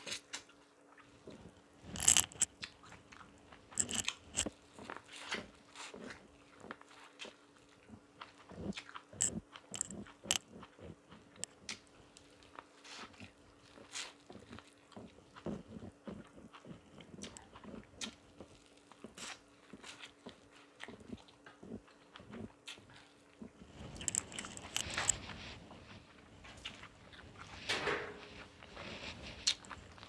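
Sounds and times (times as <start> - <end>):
corn cob crunching and chewing: 0.0 - 30.0
faint steady hum: 0.0 - 30.0.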